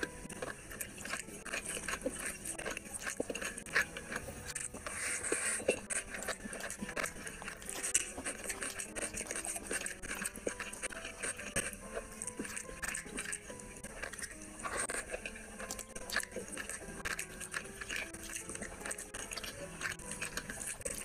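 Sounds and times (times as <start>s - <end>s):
fingers squelching through rice: 0.0s - 21.0s
wet chewing and lip-smacking: 0.0s - 21.0s.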